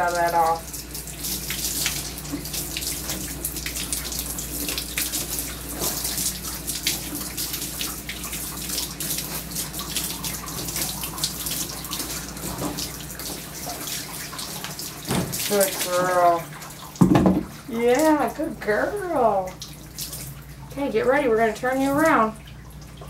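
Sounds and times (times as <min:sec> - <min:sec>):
water splashing on fur: 0:00.0 - 0:23.0.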